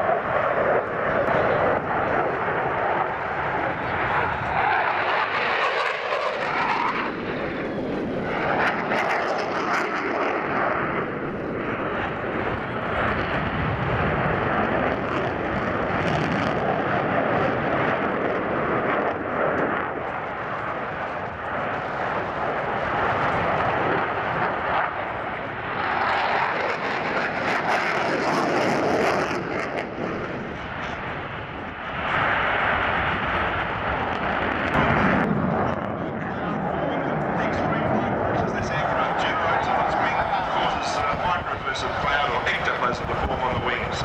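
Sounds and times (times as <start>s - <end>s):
jet engine roar: 0.0s - 44.0s.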